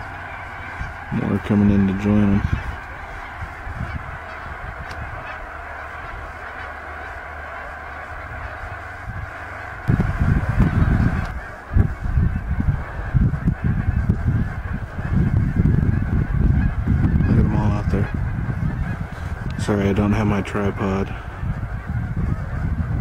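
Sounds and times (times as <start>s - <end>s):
geese honking: 0.0s - 23.0s
low rumble in gusts: 0.0s - 23.0s.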